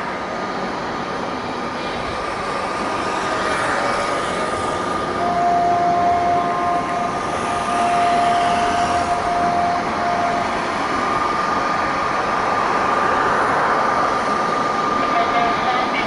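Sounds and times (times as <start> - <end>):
jet airliner landing: 0.0 - 16.0
jet engine whine: 0.0 - 16.0.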